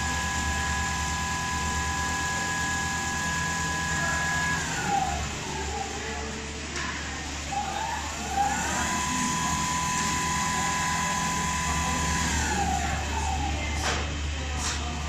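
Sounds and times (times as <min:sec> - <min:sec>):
sewing machine motor whining: 0:00.0 - 0:06.5, 0:07.2 - 0:13.7.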